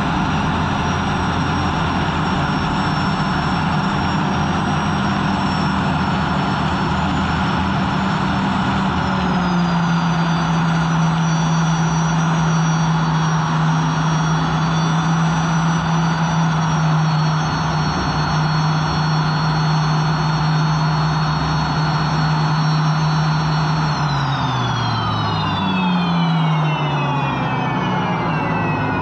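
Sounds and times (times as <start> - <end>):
strong low hum: 0.0 - 29.0
turbine engine whining: 0.0 - 29.0.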